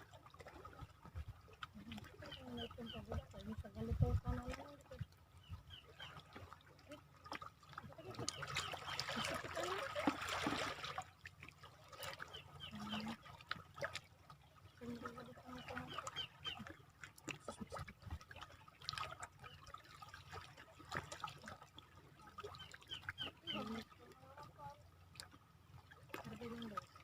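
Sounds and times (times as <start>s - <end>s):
water trickling and lapping: 0.0s - 27.0s.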